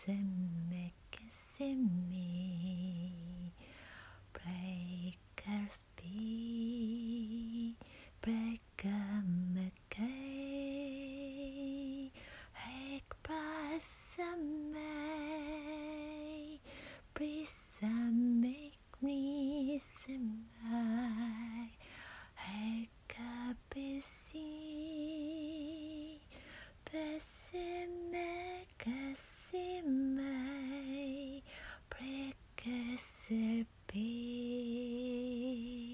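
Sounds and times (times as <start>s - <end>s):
woman singing unaccompanied: 0.0s - 35.9s.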